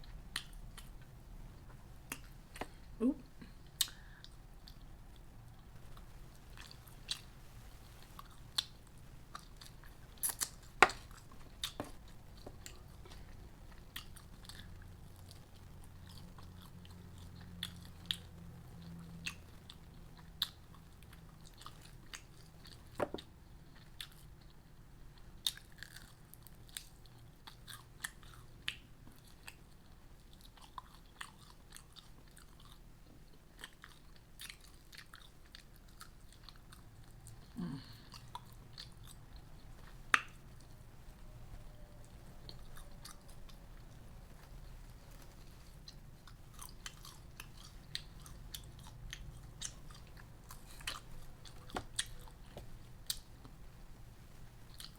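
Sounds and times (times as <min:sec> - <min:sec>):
person chewing food: 0:00.0 - 0:41.1, 0:41.8 - 0:53.7, 0:54.3 - 0:54.9.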